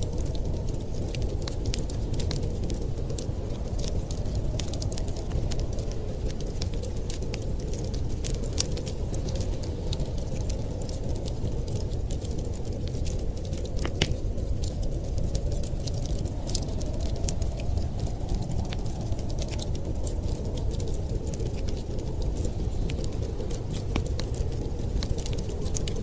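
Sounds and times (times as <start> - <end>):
fire pops and snaps: 0.0 - 26.0
wood fire crackling: 0.0 - 26.0.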